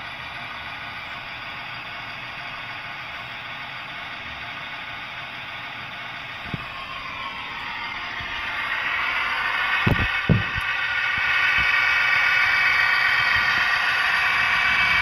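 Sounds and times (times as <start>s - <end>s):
model train diesel engine sound: 0.0s - 15.0s
model train wheel rumble: 0.0s - 15.0s.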